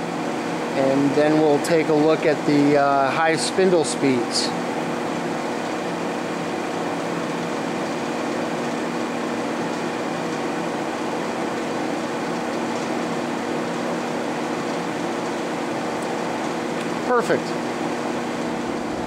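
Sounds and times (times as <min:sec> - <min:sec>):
drill press running: 0:00.0 - 0:19.0.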